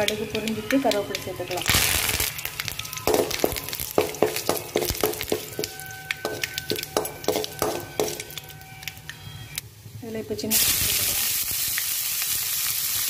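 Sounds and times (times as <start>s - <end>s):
spices sizzling in oil: 0.0s - 13.0s.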